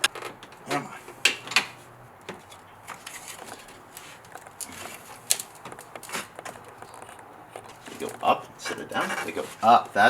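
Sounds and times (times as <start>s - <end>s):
plastic clips clicking and scraping: 1.2s - 9.7s.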